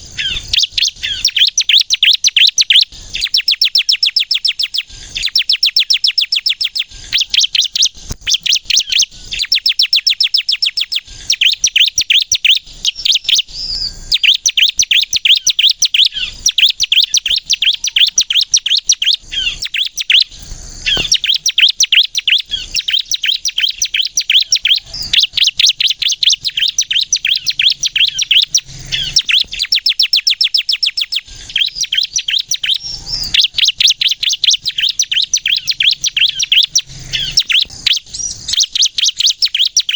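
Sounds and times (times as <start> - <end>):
bird chipping song: 0.0 - 39.9.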